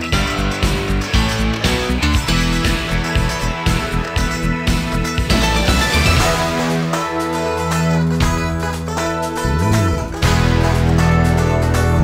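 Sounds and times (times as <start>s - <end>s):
guitar music: 0.0s - 12.0s
steady bass line: 0.0s - 12.0s.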